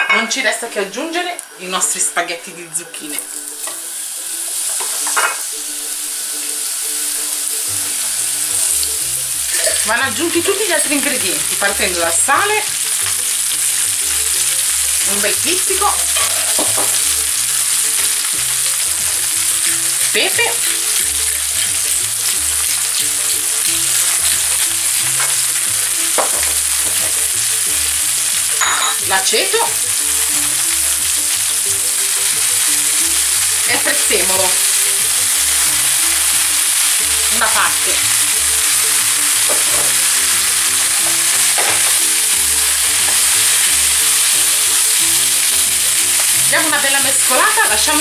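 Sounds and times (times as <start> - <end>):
vegetables sizzling in a frying pan: 0.2 - 48.0.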